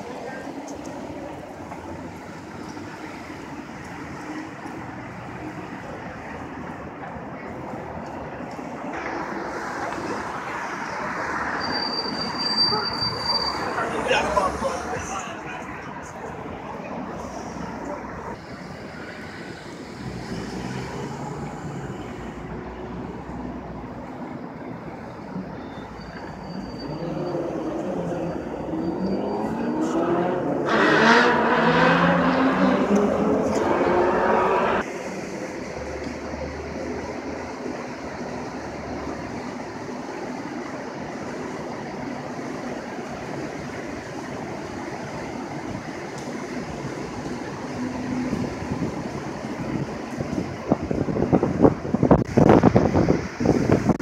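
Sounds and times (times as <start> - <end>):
city street noise: 0.0 - 54.0
road traffic noise: 0.0 - 54.0.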